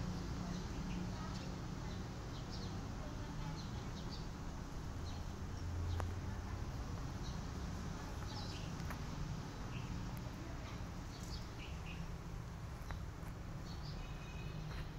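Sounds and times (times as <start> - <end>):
low outdoor rumble: 0.0 - 14.1
small birds chirping: 0.0 - 14.9.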